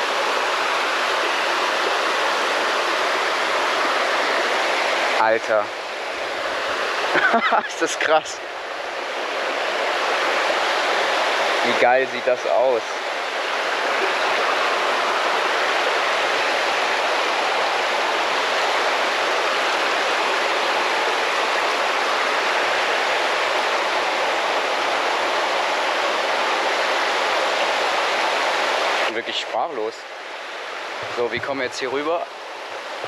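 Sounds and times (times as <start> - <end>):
small waterfall rushing: 0.0 - 33.0.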